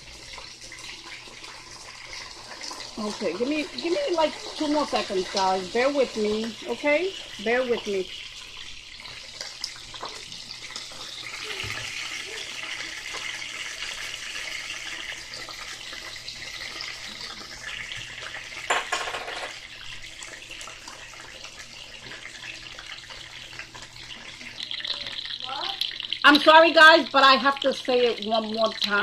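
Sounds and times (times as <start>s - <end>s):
chicken frying in hot oil: 0.0s - 29.0s.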